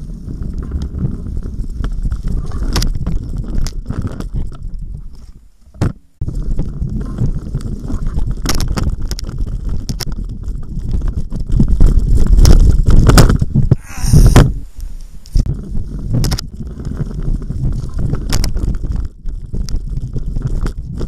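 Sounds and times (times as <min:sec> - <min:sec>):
bike tyres rumbling: 0:00.0 - 0:21.0
wind on microphone: 0:00.0 - 0:21.0.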